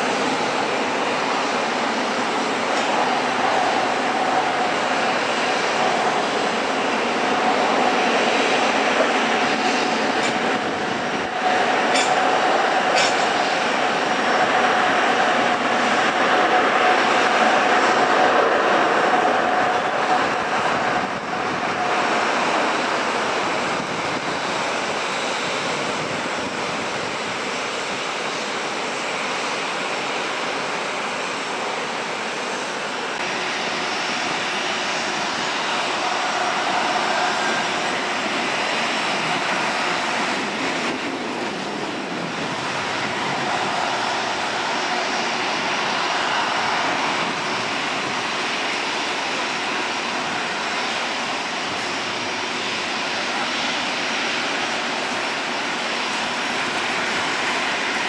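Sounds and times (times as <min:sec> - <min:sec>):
jet engines at taxi power: 0:00.0 - 0:58.0.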